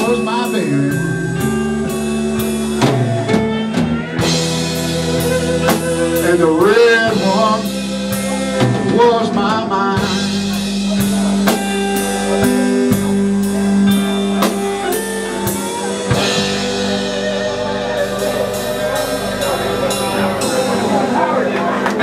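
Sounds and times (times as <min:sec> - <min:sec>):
person singing: 0:00.0 - 0:13.3, 0:13.9 - 0:21.8
held guitar notes: 0:00.0 - 0:22.0.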